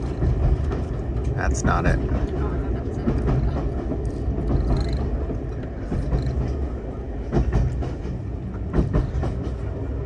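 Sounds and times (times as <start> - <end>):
railway carriage rumbling on track: 0.0 - 10.0.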